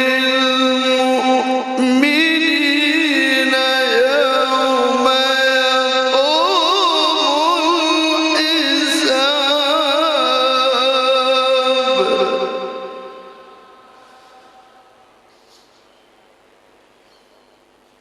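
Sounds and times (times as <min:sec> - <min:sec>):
man chanting recitation: 0:00.0 - 0:14.9.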